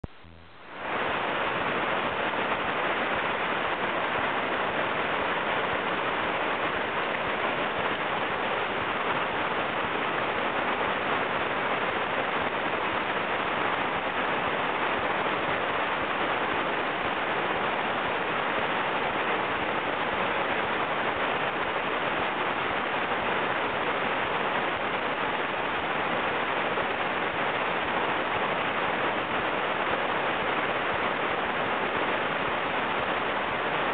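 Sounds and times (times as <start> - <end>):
river rapids rushing: 0.8 - 33.9.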